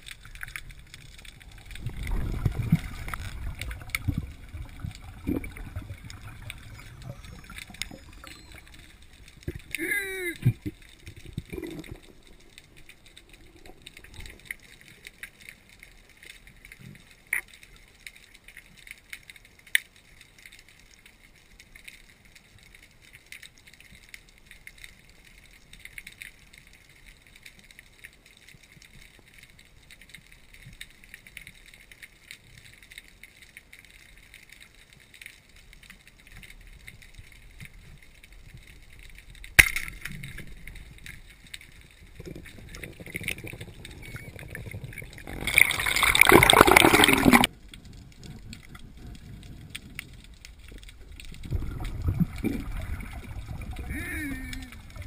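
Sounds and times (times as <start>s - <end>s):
small clicks: 0.0s - 55.0s
underwater crackling: 0.0s - 55.0s.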